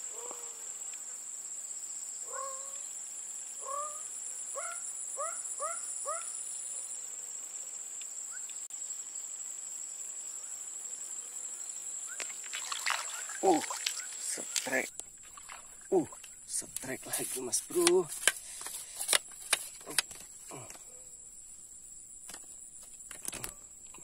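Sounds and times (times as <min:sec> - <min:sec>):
higher insect trill: 0:00.0 - 0:24.0
insects trilling: 0:00.0 - 0:24.0.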